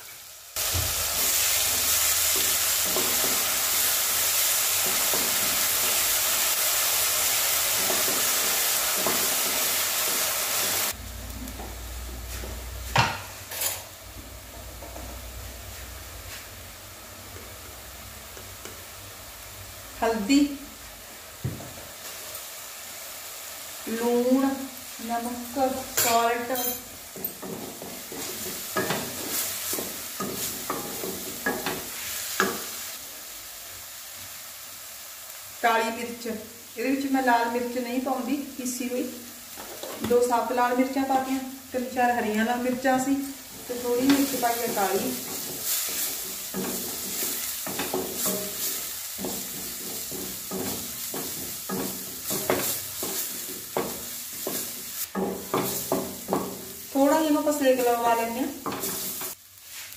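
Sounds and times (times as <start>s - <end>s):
paste sizzling in hot oil: 0.0s - 14.0s, 15.2s - 59.9s.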